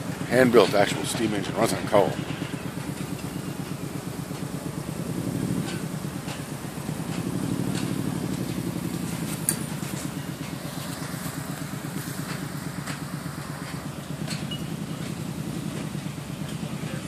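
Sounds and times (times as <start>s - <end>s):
miniature train engine running: 0.0s - 17.0s.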